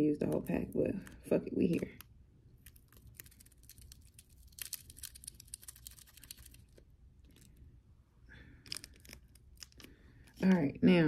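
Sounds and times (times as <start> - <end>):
glitter packet crinkling and tapping: 0.2 - 7.6, 8.6 - 10.7.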